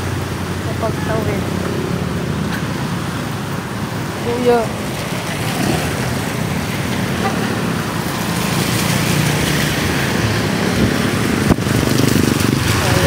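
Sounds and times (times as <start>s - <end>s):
scooter engines running: 0.0s - 13.0s
tyres splashing through water: 0.0s - 13.0s.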